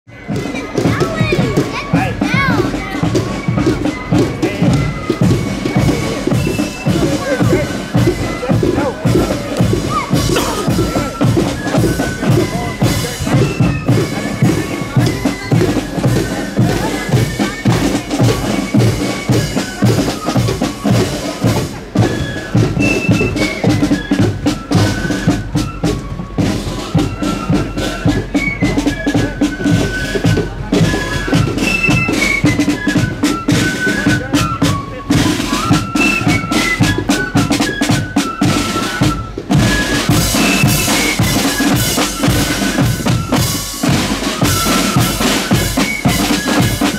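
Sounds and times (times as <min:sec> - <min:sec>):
marching band playing: 0:00.1 - 0:46.9
rattling side drums: 0:00.1 - 0:46.9.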